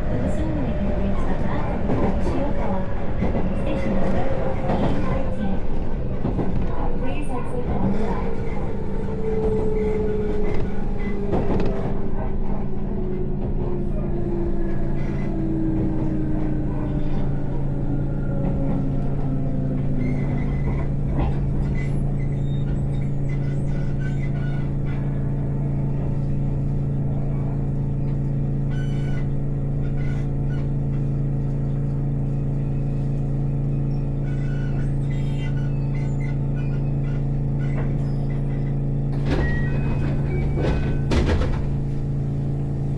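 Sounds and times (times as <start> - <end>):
low train hum: 0.0 - 42.9
train motor whine: 0.0 - 42.9.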